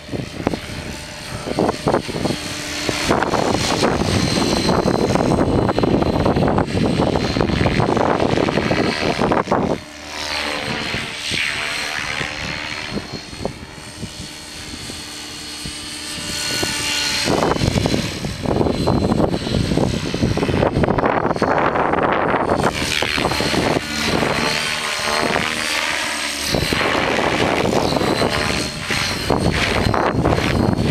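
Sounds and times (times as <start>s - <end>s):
rc helicopter motor whine: 0.0s - 30.9s
wind buffeting microphone: 0.0s - 30.9s.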